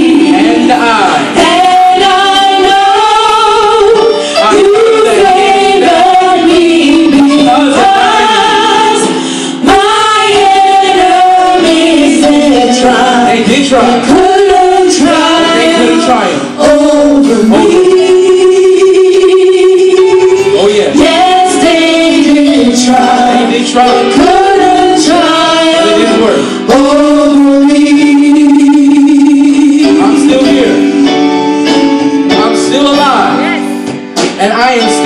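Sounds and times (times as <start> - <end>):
group singing gospel song: 0.0 - 32.6.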